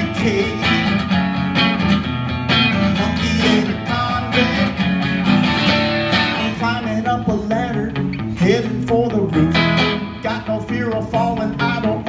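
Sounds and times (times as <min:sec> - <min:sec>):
electric guitar strumming chords: 0:00.0 - 0:12.0.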